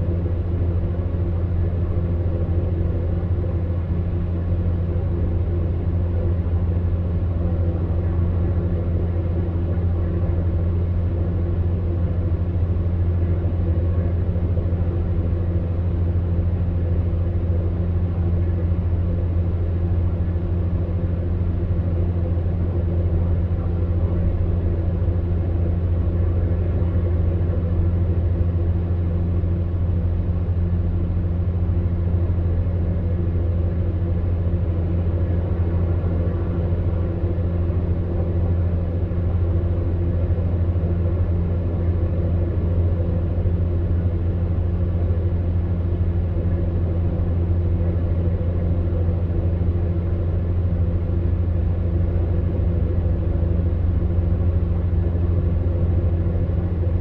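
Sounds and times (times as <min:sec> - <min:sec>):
fan heater humming: 0:00.0 - 0:57.0.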